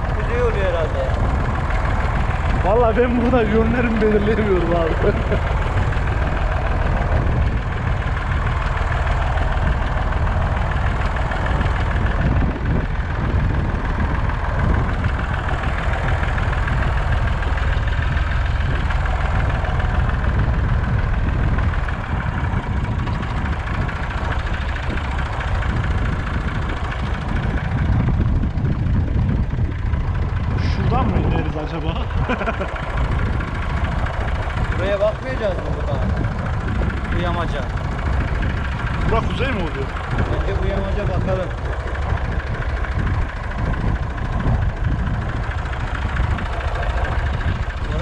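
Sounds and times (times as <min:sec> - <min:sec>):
tractor engine rumbling: 0:00.0 - 0:48.0.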